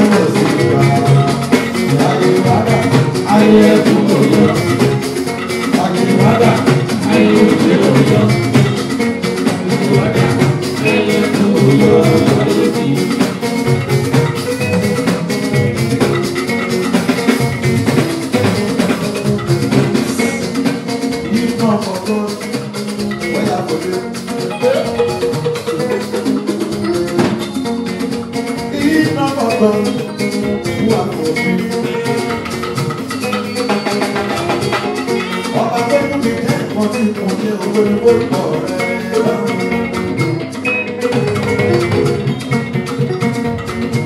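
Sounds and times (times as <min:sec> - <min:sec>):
electric guitars: 0:00.0 - 0:44.0
live band music: 0:00.0 - 0:44.0
shaker percussion: 0:00.0 - 0:44.0.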